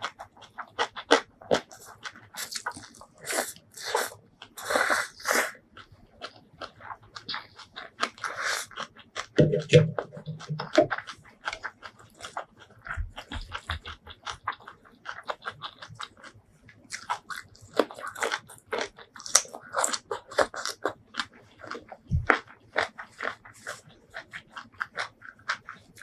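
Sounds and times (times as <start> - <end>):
chewing and biting noodles: 0.0 - 26.0
crisp crunching of raw beans: 0.0 - 26.0.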